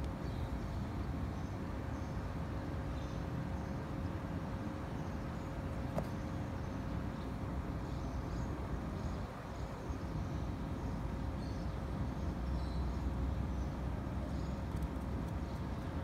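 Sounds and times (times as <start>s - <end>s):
faint steady hum: 0.0s - 16.0s
low rumble and hiss: 0.0s - 16.0s.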